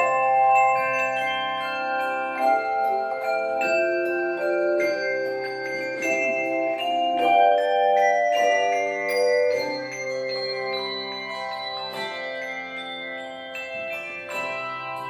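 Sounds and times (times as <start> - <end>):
handbell choir playing: 0.0 - 15.0.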